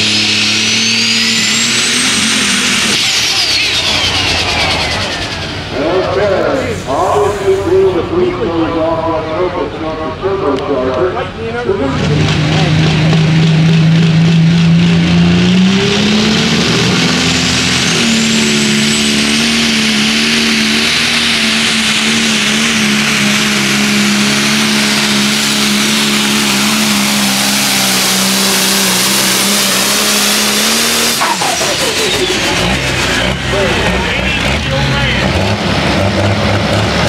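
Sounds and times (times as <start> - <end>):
tractor diesel engine at full throttle: 0.0 - 37.0.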